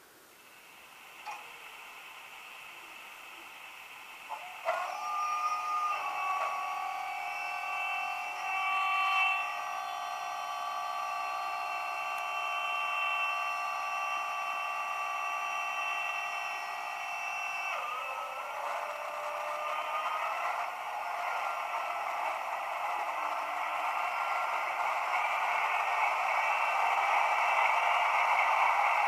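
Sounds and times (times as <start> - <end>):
diesel locomotive engine starting: 0.5 - 29.0.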